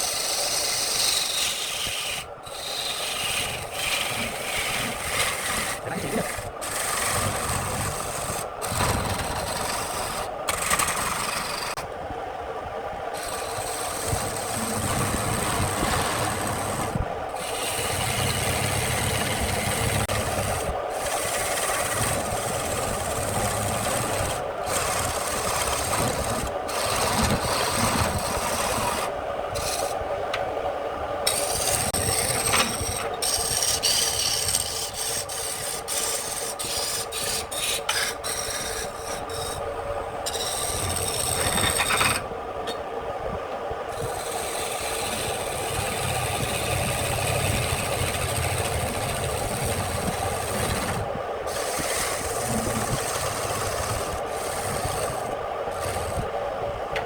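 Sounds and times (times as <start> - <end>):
lathe motor hum: 0.0 - 11.9, 12.8 - 30.1, 31.2 - 42.7, 43.9 - 57.0
turning tool scraping spinning wood: 0.0 - 11.9, 13.1 - 30.0, 31.3 - 42.3, 43.9 - 56.5.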